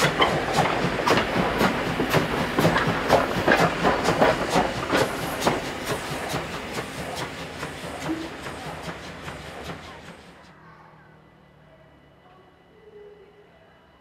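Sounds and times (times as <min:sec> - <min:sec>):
steam locomotive running past: 0:00.0 - 0:14.0.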